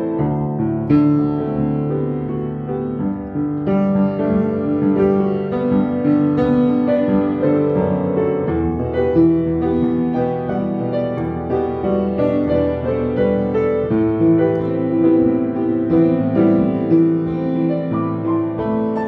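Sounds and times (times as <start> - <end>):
piano melody with chords: 0.0 - 19.0.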